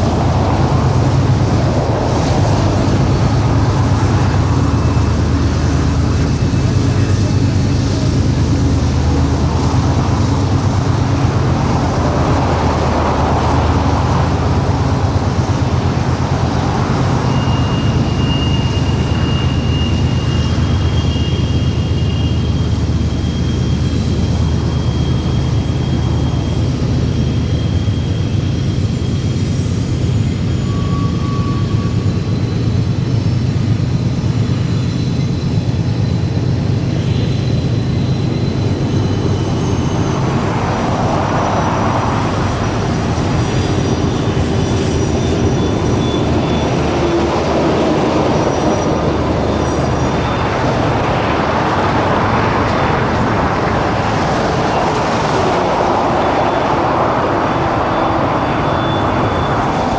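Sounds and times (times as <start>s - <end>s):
faint high squeals: 0.0s - 59.9s
train rumbling: 0.0s - 59.9s.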